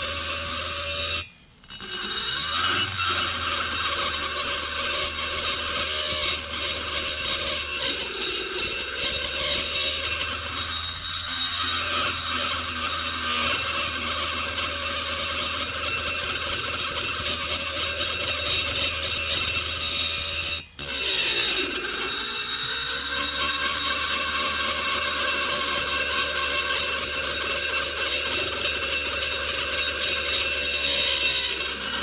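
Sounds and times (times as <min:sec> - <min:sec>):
rotary tool grinding metal: 0:00.0 - 0:32.0.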